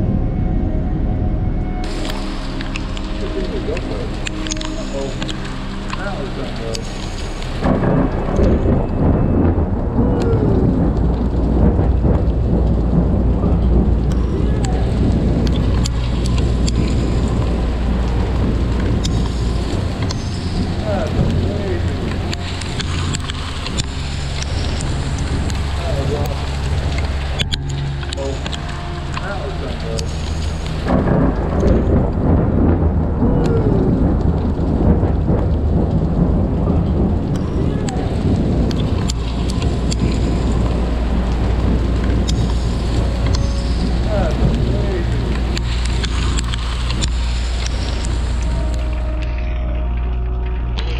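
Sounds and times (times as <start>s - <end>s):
thunder rumbling: 0.0s - 50.9s
rain and hail pattering on camera: 1.8s - 50.9s.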